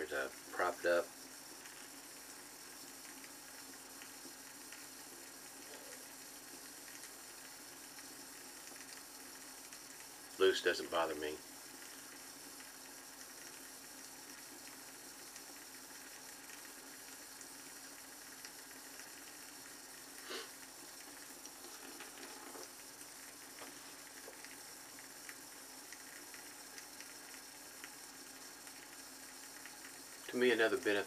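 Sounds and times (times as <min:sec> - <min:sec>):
steady low hiss: 0:00.0 - 0:31.0.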